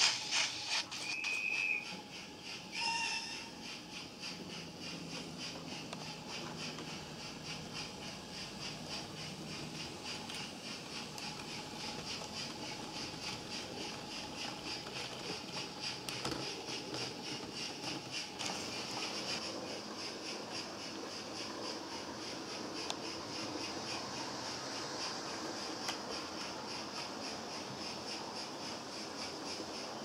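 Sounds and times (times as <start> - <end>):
model train rolling on track: 0.0 - 30.0.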